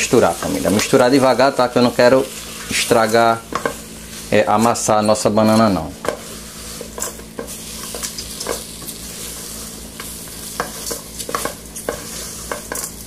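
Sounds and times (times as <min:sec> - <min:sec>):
bacon fat sizzling: 0:00.0 - 0:13.0
spatula scraping metal pot: 0:02.5 - 0:13.0.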